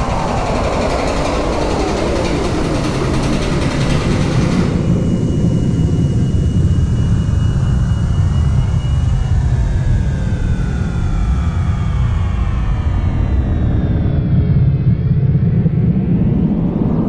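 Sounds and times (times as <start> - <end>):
generator deep rumble: 0.0 - 17.0
whines rising in pitch: 0.0 - 17.0.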